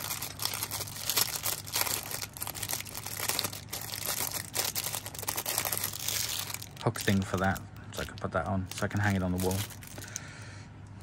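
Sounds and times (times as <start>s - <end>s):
packaging crinkling: 0.0s - 10.4s.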